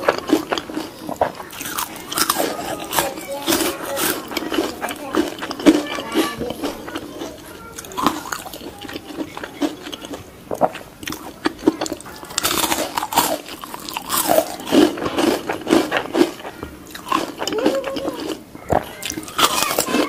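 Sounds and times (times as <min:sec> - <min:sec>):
crunchy skin being chewed: 0:00.0 - 0:20.0.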